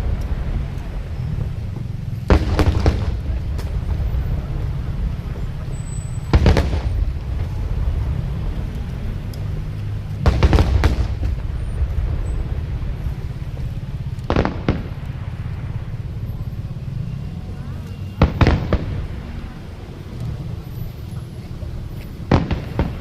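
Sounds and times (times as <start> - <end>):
fireworks bursting: 0.0 - 23.0
low rumble: 0.0 - 23.0.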